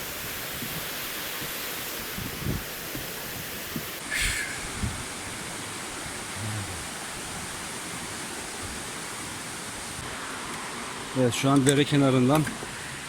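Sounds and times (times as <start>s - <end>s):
creek flowing: 0.0s - 11.3s.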